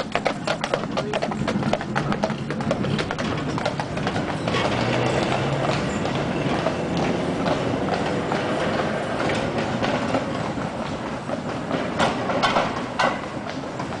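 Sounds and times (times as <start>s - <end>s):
tram wheels clattering on rails: 0.0s - 14.0s.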